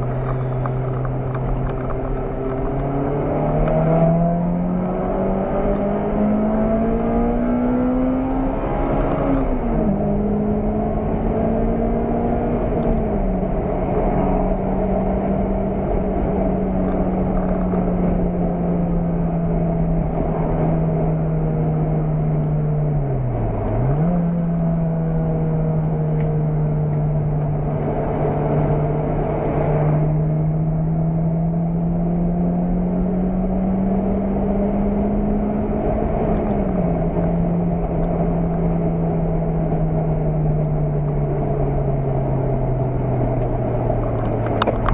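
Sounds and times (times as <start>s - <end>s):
car engine under load: 0.0s - 44.9s
road and wind noise: 0.0s - 44.9s.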